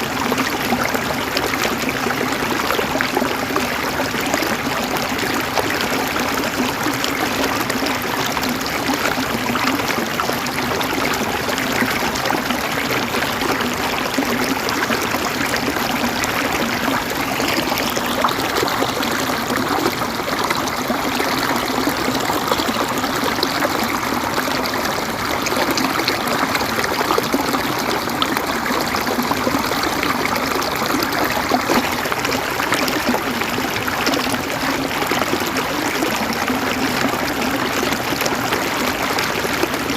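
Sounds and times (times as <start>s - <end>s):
river water gurgling over rocks: 0.0s - 39.9s.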